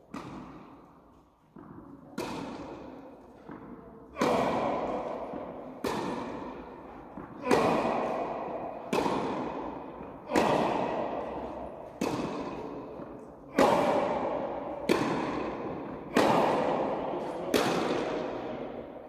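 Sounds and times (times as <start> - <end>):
racket hitting tennis ball: 0.0 - 19.0
tennis ball bouncing on court: 0.1 - 19.0.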